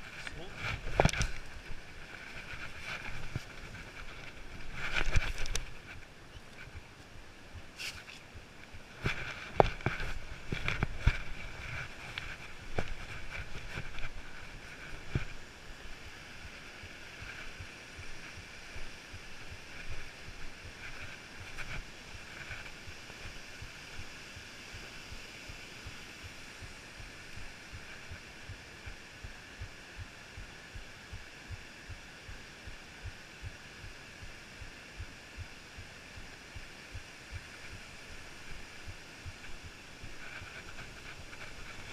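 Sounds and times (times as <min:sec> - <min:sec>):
footsteps on a trail: 0:00.0 - 0:41.9
wind rumble on microphone: 0:00.0 - 0:41.9.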